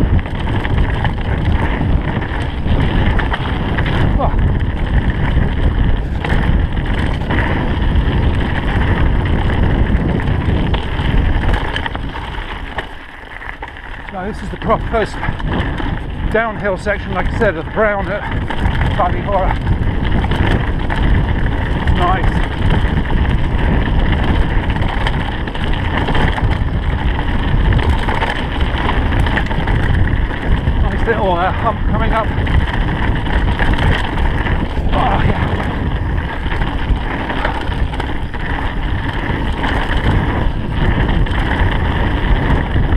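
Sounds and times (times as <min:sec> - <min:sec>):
bike clicks and rattles: 0:00.0 - 0:42.9
tyres rolling on dirt trail: 0:00.0 - 0:42.9
wind rushing over microphone: 0:00.0 - 0:42.9.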